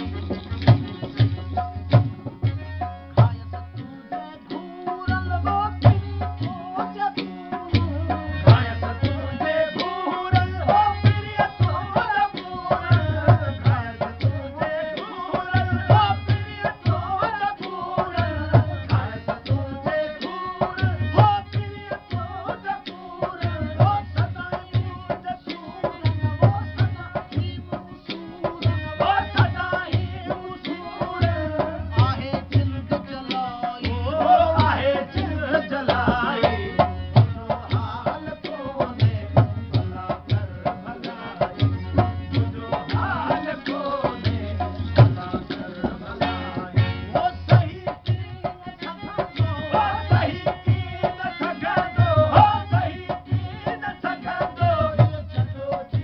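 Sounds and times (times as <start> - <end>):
hand drum beat: 0.0 - 3.8, 4.6 - 56.0
harmonium: 0.0 - 56.0
man singing: 0.0 - 56.0.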